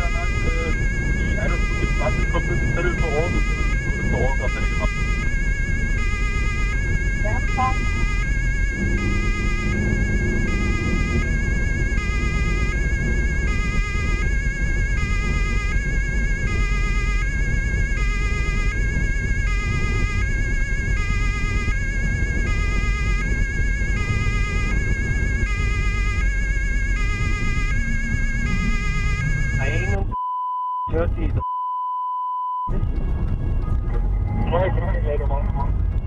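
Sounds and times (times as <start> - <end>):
car road and engine rumble: 0.0 - 30.2, 30.9 - 31.5, 32.7 - 36.0
two-tone police siren: 0.0 - 30.2, 31.9 - 36.0.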